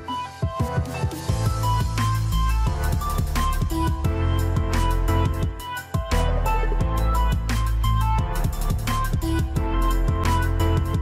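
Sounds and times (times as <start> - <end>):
electronic music with kick drum: 0.0 - 11.0
deep bass: 1.3 - 11.0.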